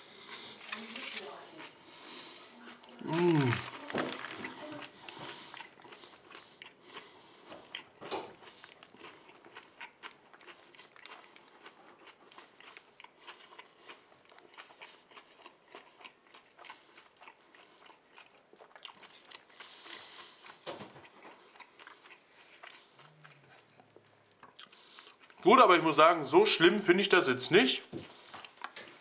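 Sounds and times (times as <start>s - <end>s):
man chewing wet crunches: 0.0s - 25.5s, 28.0s - 29.0s.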